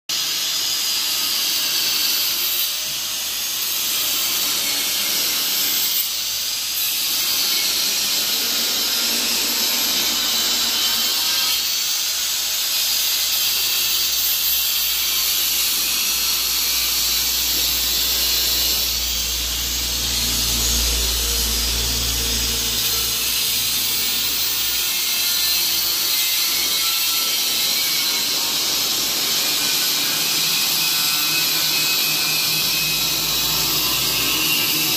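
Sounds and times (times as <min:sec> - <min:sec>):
angle grinder cutting steel: 0:00.1 - 0:34.9.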